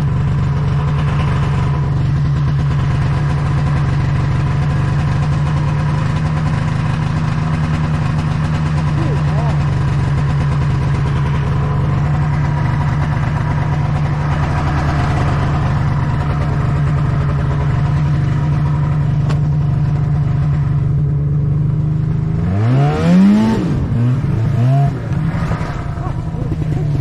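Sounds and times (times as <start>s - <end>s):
snowmobile engine revving: 0.0s - 20.7s, 22.3s - 27.0s.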